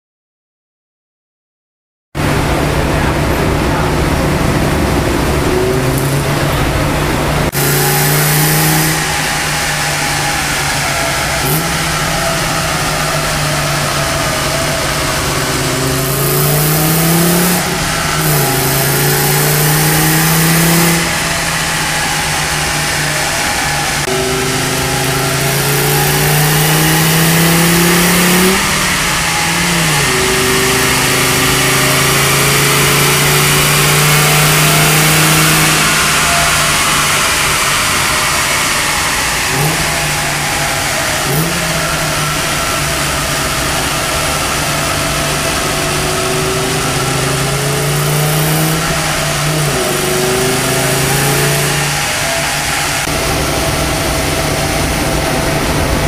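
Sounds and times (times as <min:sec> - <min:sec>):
car engine under load: 0:02.1 - 0:56.0.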